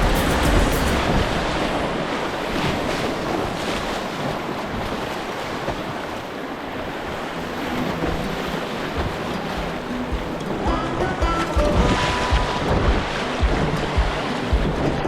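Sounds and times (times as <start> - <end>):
rushing river water: 0.0 - 15.0
wind on microphone: 0.0 - 15.0.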